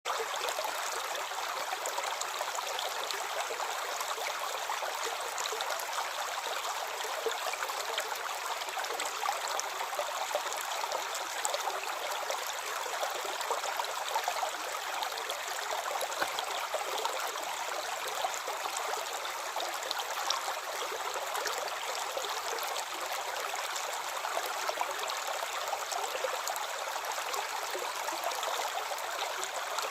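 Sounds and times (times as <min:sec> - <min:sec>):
stream flowing: 0:00.1 - 0:29.9.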